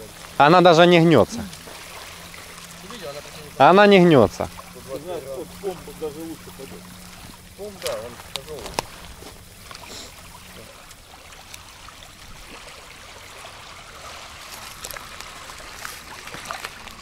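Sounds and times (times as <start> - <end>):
waves lapping on pebbly shore: 0.0 - 17.0.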